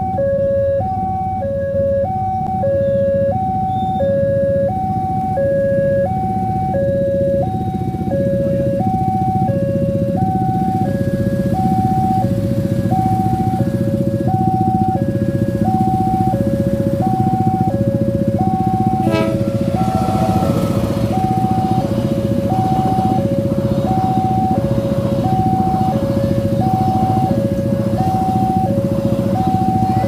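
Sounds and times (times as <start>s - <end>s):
level-crossing alarm two-tone: 0.0s - 30.0s.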